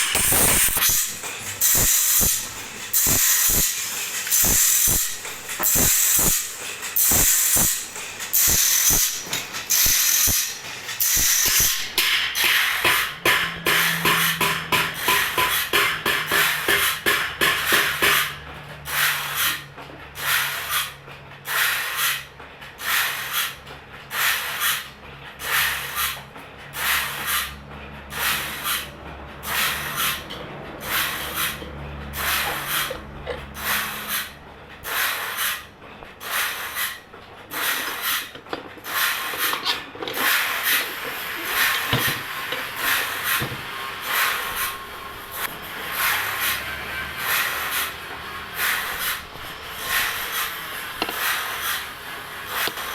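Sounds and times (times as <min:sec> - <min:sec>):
rasping strokes on saw blade: 0:00.0 - 0:26.2, 0:26.8 - 0:52.9.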